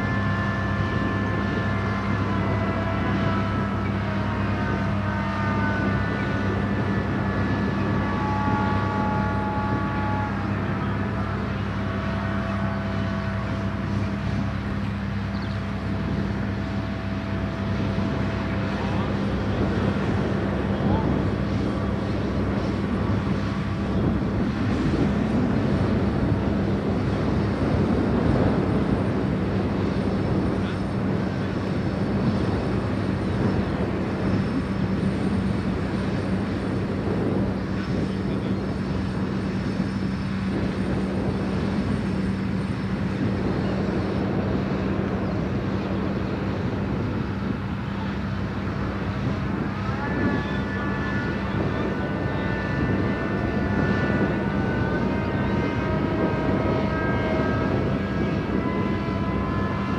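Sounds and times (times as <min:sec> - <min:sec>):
diesel crane engine droning: 0:00.0 - 0:59.9
rising whine: 0:00.0 - 0:59.9.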